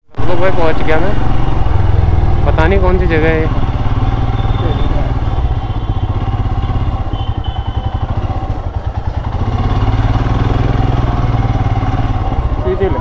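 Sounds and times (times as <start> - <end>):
motorcycle engine rumbling: 0.1 - 13.0.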